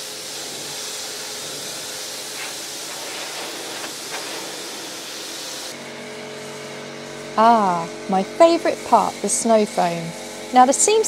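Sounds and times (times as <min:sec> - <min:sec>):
pressure washer spraying car: 0:00.0 - 0:11.0.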